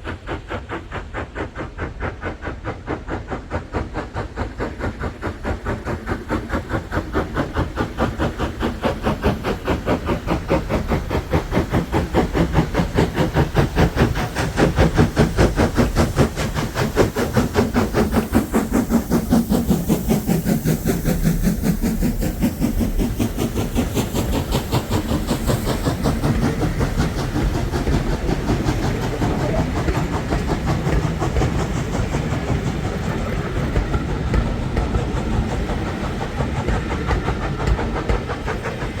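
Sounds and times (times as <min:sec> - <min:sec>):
steam hissing: 0:00.0 - 0:39.0
steam train running: 0:00.0 - 0:39.0.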